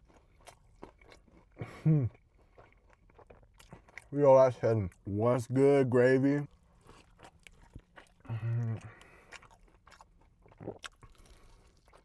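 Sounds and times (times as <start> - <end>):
person chewing crispy chicken: 0.0 - 5.1, 6.5 - 12.0.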